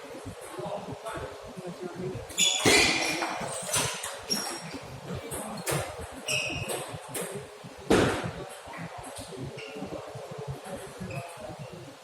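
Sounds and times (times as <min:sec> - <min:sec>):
murmur of hall noise: 0:00.0 - 0:12.0.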